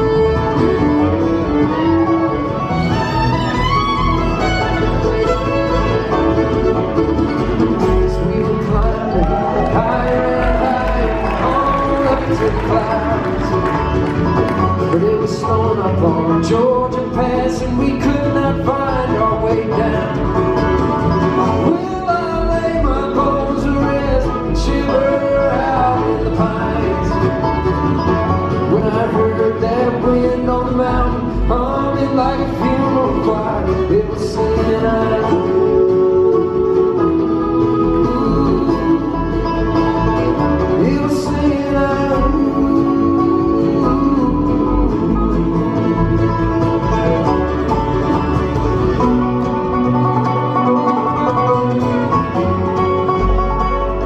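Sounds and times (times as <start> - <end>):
acoustic guitar: 0.0 - 54.0
banjo: 0.0 - 54.0
bluegrass string band playing: 0.0 - 54.0
fiddle: 0.0 - 54.0
mandolin: 0.0 - 54.0
upright bass: 0.0 - 54.0.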